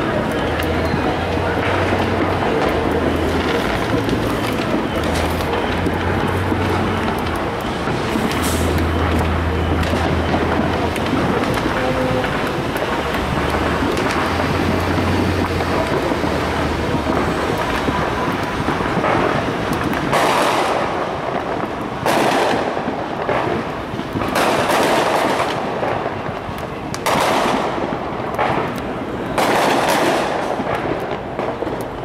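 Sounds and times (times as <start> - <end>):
distant fireworks crackling: 0.0 - 32.0.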